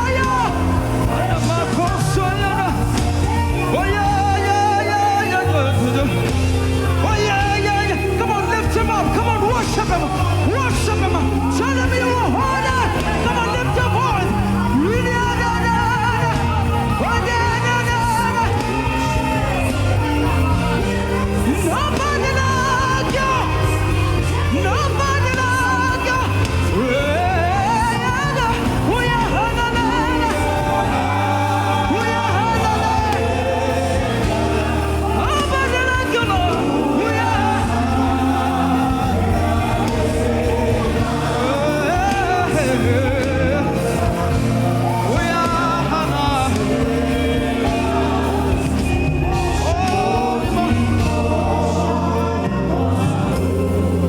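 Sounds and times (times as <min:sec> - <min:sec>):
band with steady bass notes: 0:00.0 - 0:54.0
gospel choir singing: 0:00.0 - 0:54.0.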